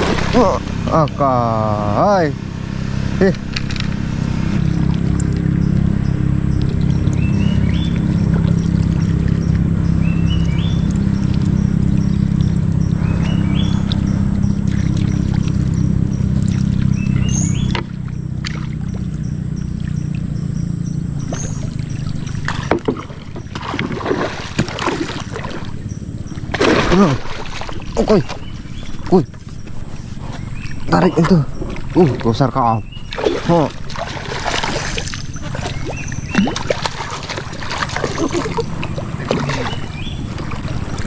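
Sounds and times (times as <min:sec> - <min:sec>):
small boat engine running: 0:00.0 - 0:41.0
water noise: 0:00.0 - 0:41.0.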